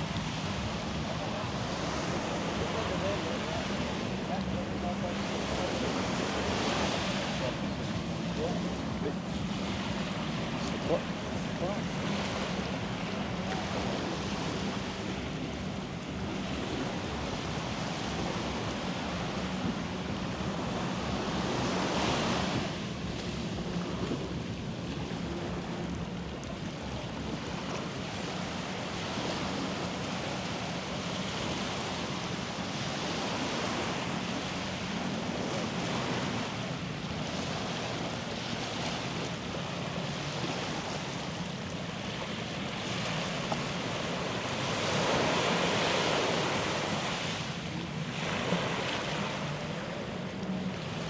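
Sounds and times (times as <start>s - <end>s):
waves breaking on beach: 0.0s - 51.0s.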